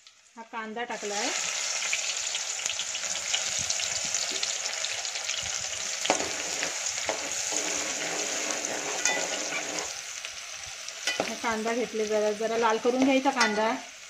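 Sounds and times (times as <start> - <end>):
onion sizzling in hot oil: 0.0 - 14.0.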